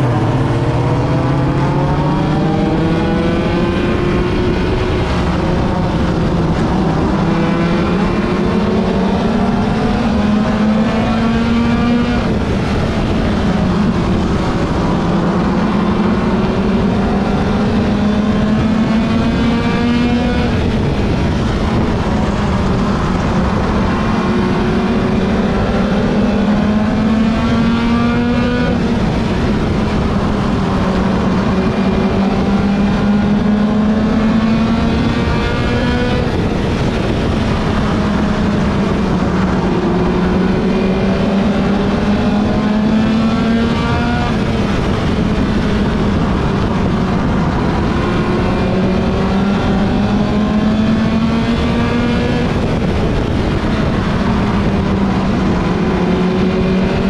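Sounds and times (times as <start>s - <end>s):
race car engine at full pace: 0.0s - 57.0s
road and wind noise: 0.0s - 57.0s.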